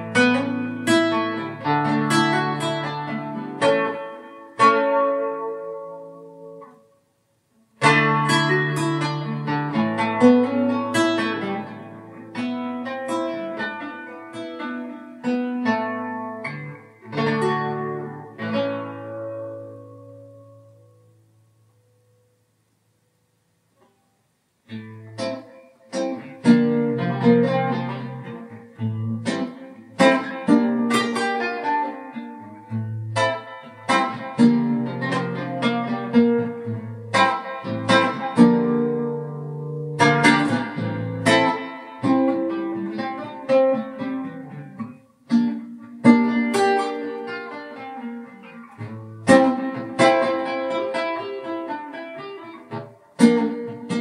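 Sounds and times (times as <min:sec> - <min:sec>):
acoustic guitar plucking: 0:00.0 - 0:54.0.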